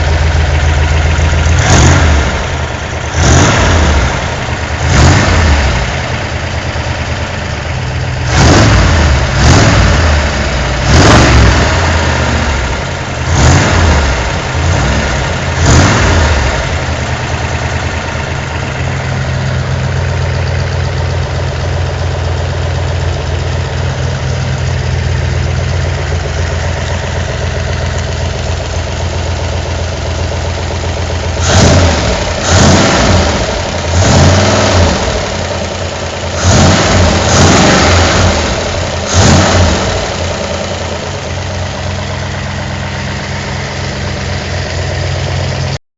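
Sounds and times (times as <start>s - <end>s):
car engine idling and revving: 0.0s - 45.8s.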